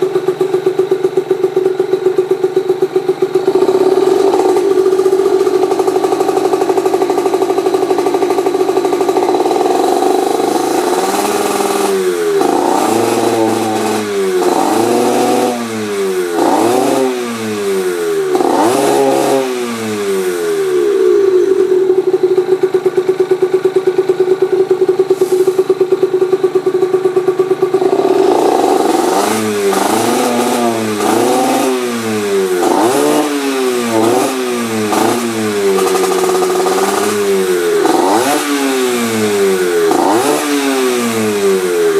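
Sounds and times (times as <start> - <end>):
two-stroke engine revving: 0.0 - 41.9.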